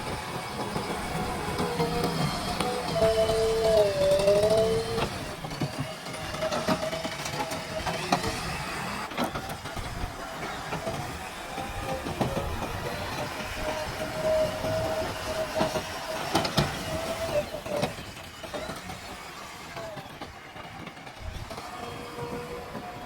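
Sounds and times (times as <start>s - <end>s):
backhoe engine and hydraulics whine: 0.0s - 23.0s.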